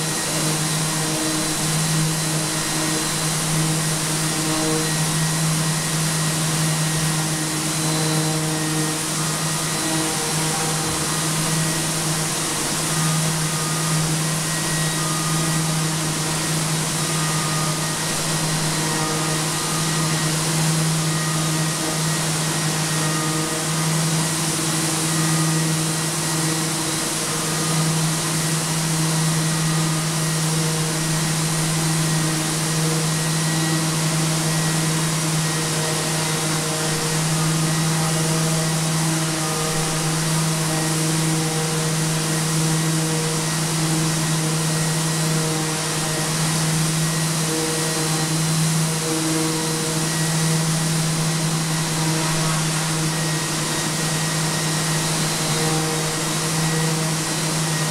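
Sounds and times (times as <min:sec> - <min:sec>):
orbital sander and dust extractor: 0:00.0 - 0:57.9.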